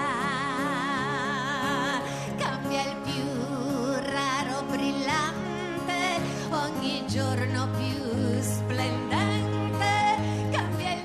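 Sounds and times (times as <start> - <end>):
acoustic guitar: 0.0 - 11.0
woman singing with vibrato: 0.0 - 11.0.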